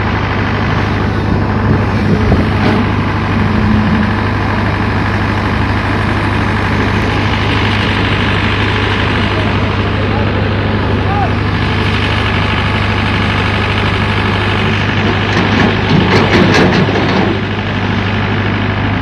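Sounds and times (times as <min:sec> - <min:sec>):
excavator diesel engine drone: 0:00.0 - 0:19.0.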